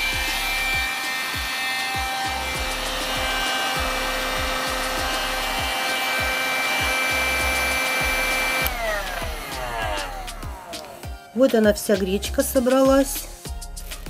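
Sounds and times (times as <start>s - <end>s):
hand vacuum motor whine: 0.0s - 11.4s.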